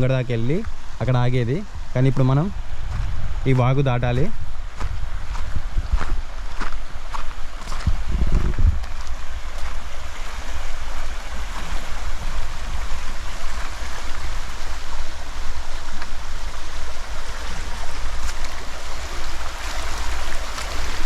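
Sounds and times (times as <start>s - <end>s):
stream flowing water rush: 0.0s - 21.0s.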